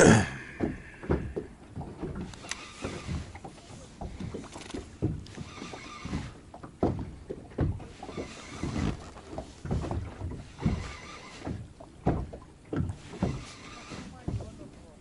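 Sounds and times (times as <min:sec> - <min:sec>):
water splashing: 0:00.0 - 0:15.0
waves slapping boat hull: 0:00.0 - 0:15.0.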